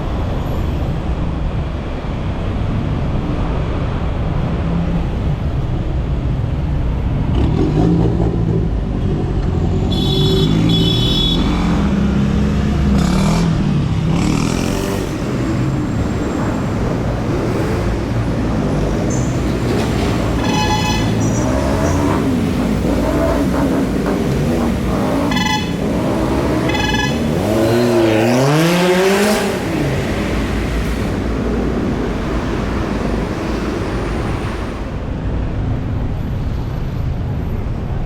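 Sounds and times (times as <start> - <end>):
passing cars and motorcycles: 0.0 - 38.0.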